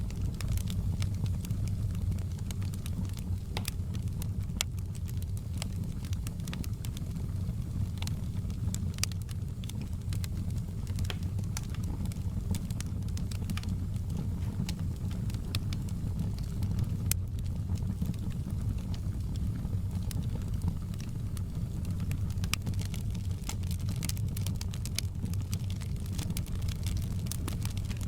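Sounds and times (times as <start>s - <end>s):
campfire crackling and popping: 0.0s - 28.0s
low fire rumble: 0.0s - 28.0s.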